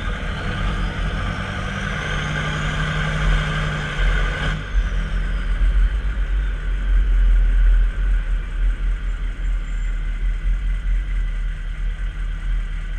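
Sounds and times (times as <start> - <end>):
diesel truck engine rumbling: 0.0 - 12.9
faint high turbo whine: 0.0 - 12.9.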